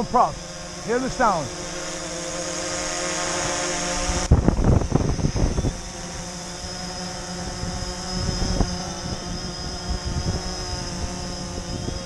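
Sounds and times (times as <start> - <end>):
quadcopter hovering hum: 0.0 - 12.0.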